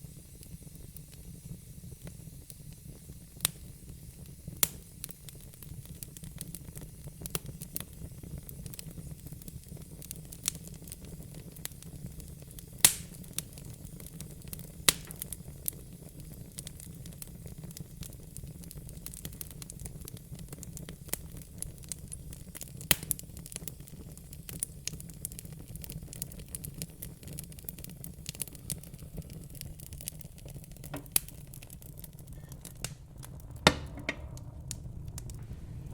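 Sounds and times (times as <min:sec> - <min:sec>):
low rumble of fire: 0:00.0 - 0:35.9
wood fire crackling and popping: 0:00.0 - 0:35.9.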